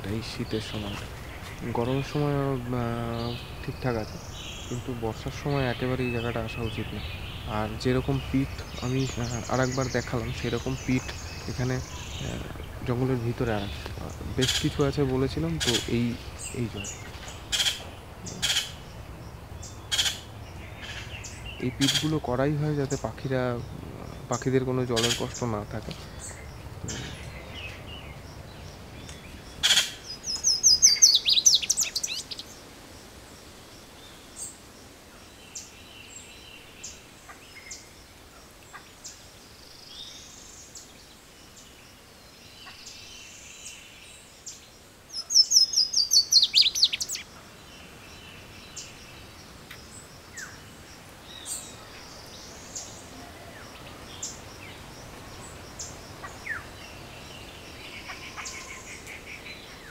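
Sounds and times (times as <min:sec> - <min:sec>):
faint bird chirps: 0:00.0 - 0:32.7, 0:33.3 - 0:59.9.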